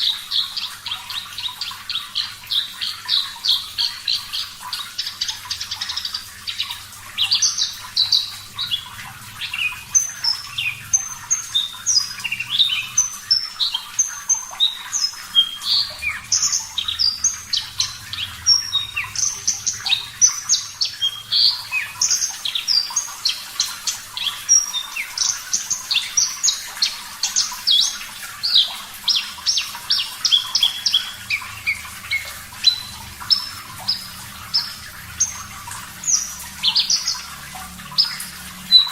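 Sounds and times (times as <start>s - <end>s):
bird singing chirps and trills: 0.0s - 38.9s
faint running water: 0.0s - 38.9s.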